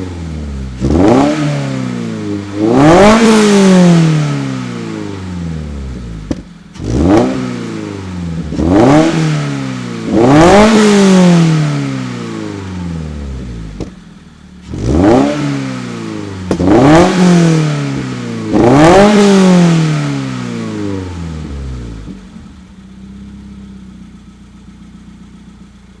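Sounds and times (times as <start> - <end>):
car engine revving: 0.0 - 25.7
car engine idling: 0.0 - 26.0.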